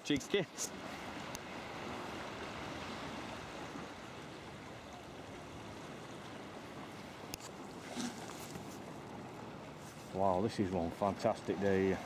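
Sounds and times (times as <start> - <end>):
water lapping against kayak hull: 0.0 - 12.0.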